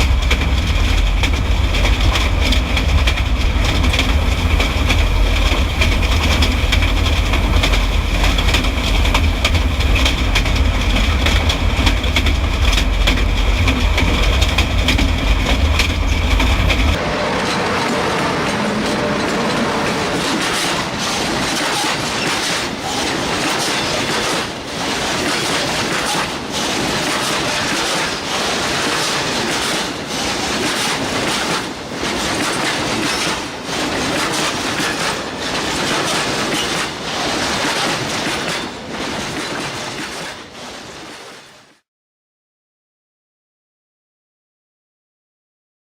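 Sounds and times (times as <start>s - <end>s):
train rumbling and rattling on track: 0.0s - 41.8s.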